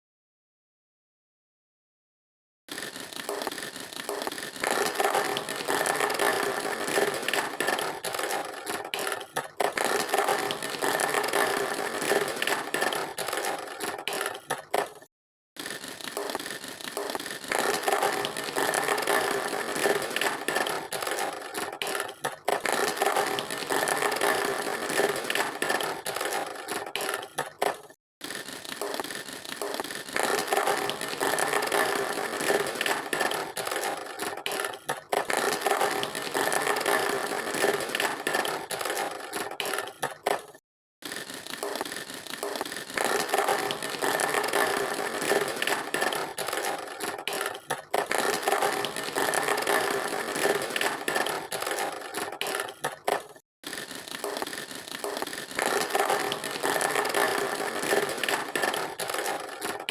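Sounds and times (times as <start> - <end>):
plastic toys rattling and scraping: 2.7 - 59.9.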